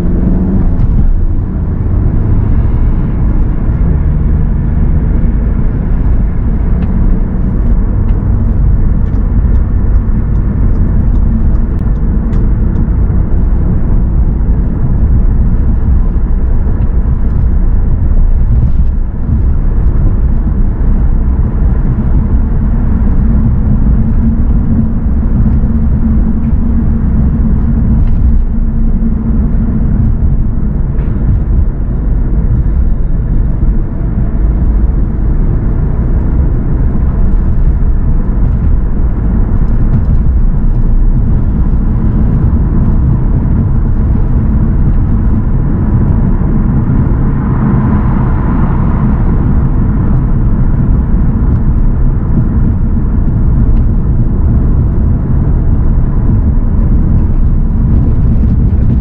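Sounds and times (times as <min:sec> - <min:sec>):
car engine rumble: 0:00.0 - 0:59.0
road noise: 0:00.0 - 0:59.0.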